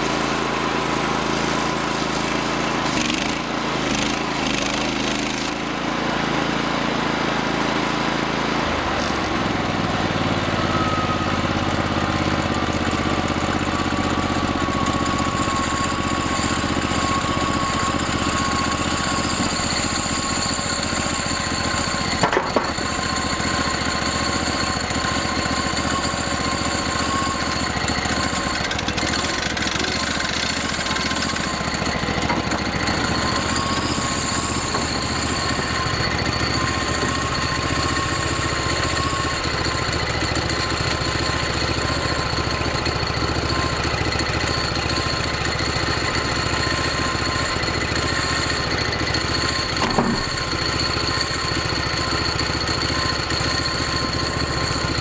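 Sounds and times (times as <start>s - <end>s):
band sawmill cutting log: 0.0s - 55.0s.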